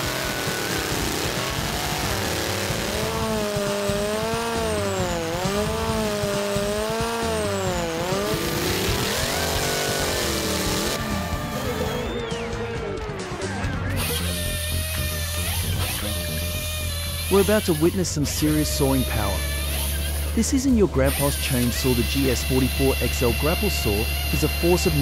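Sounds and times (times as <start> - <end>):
racing chainsaw cutting log: 0.0 - 12.3, 13.9 - 25.0.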